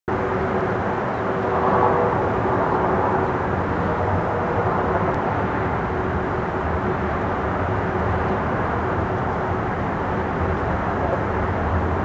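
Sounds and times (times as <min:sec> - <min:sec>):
distant jet engine noise: 0:00.1 - 0:12.0.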